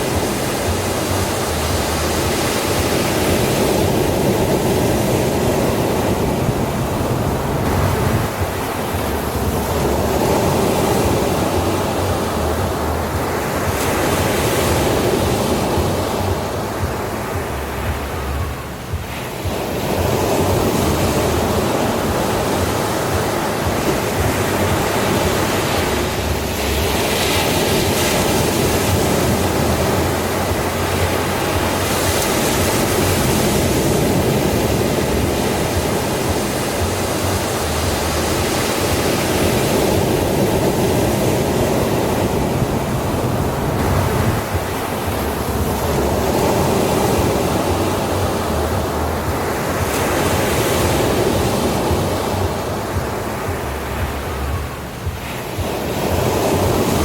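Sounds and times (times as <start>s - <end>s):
waves breaking on beach: 0.0s - 57.0s.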